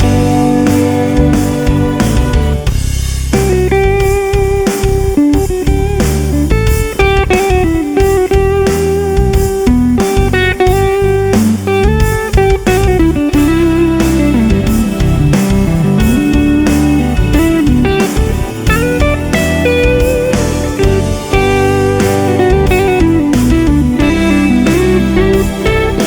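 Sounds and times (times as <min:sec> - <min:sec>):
electric guitar lead notes: 0:00.0 - 0:26.0.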